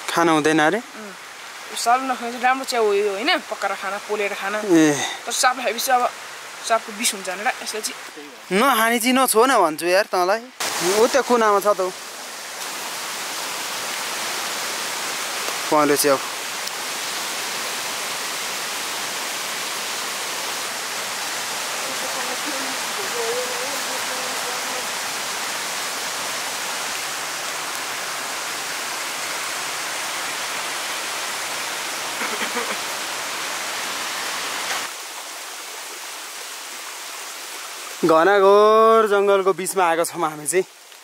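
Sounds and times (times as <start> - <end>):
flowing water rushing: 0.0 - 41.0.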